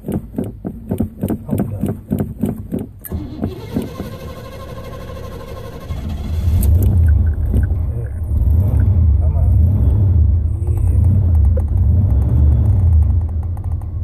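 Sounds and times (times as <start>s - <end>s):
car engine cranking and starting: 0.0s - 14.0s.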